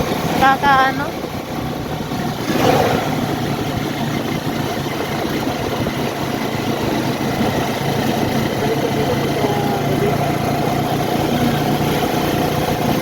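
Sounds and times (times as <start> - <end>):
car engine humming inside cabin: 0.0 - 13.0.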